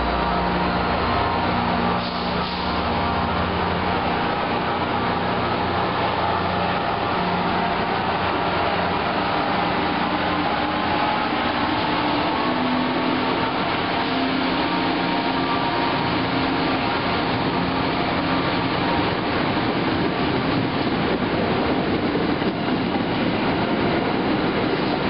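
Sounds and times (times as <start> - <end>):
steel wheels running on rails: 0.0 - 25.0
train coaches passing: 0.0 - 25.0.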